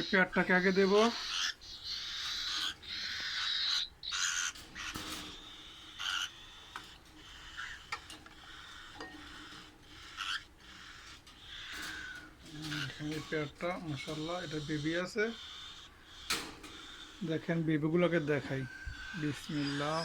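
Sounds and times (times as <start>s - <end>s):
cockatiels raspy calls: 0.0s - 20.0s.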